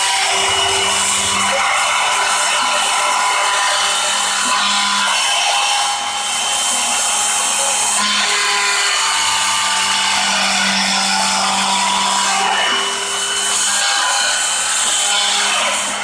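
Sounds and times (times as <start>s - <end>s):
power tool cutting with whine: 0.0s - 16.0s.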